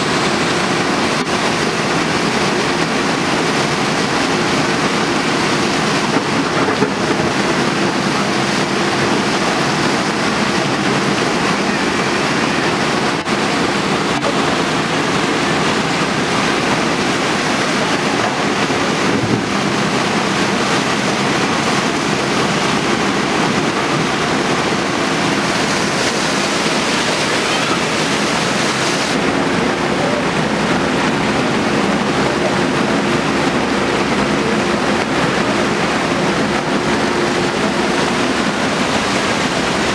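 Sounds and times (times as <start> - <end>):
backhoe engine hum: 0.0 - 39.9
floodwater rushing: 0.0 - 39.9.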